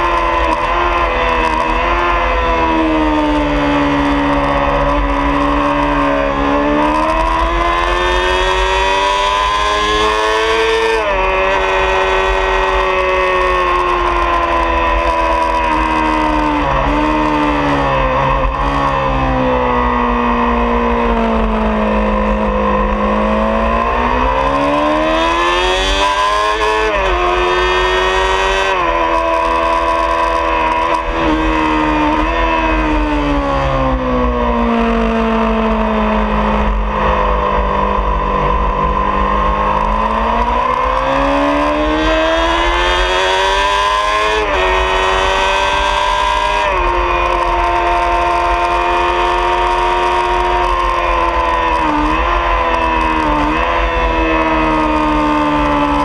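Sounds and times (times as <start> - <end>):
motorcycle engine racing: 0.0 - 56.0.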